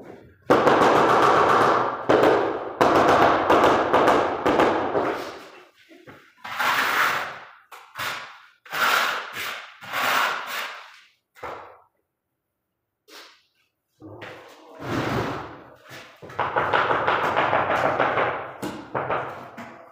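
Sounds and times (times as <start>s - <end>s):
knocking and scraping on floor tile: 0.0s - 11.9s, 14.1s - 19.9s.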